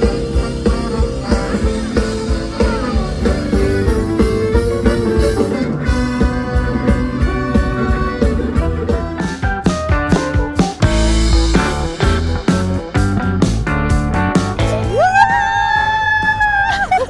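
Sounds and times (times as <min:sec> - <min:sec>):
live rock band playing: 0:00.0 - 0:16.8.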